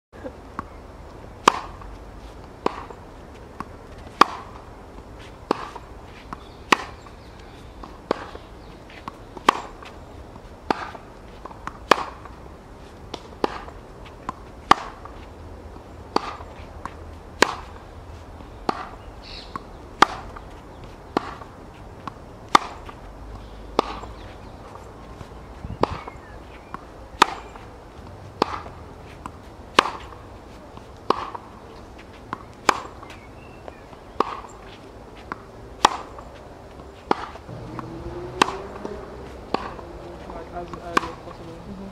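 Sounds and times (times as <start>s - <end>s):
tennis ball struck by rackets: 1.4s - 12.4s, 13.1s - 15.3s, 16.1s - 17.8s, 18.6s - 23.0s, 23.7s - 41.6s.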